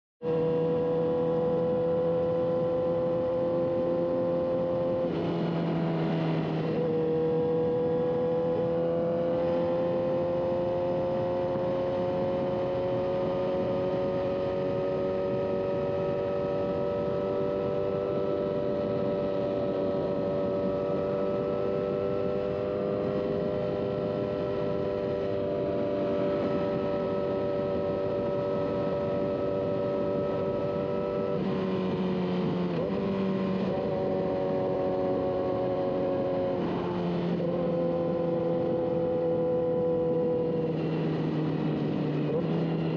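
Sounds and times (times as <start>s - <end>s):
vehicle engine humming: 0.2s - 42.9s.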